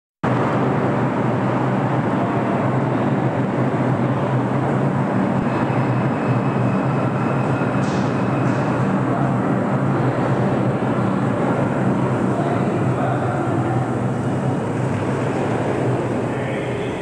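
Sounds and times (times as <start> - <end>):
subway trains rumbling: 0.2 - 17.0.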